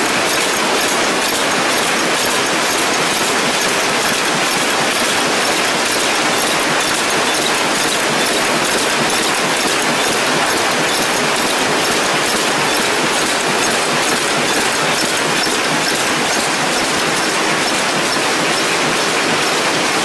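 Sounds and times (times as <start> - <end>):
packaging machines clattering: 0.0 - 20.0.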